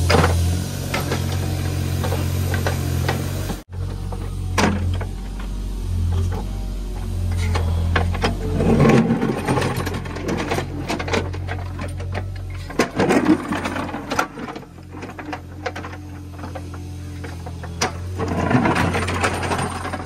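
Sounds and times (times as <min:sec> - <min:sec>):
excavator bucket scraping soil: 0:00.0 - 0:20.0
low engine hum: 0:00.0 - 0:20.0.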